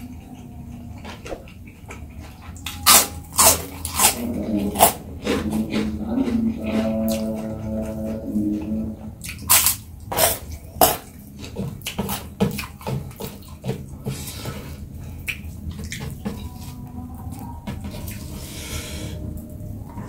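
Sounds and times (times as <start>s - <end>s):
chewing crispy food: 0.0s - 20.0s.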